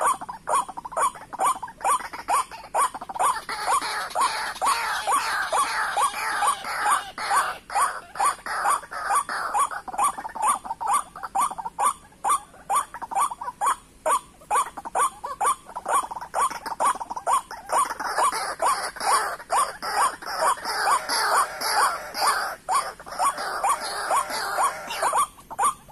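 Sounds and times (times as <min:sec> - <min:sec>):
waterhen calling: 0:00.0 - 0:25.9.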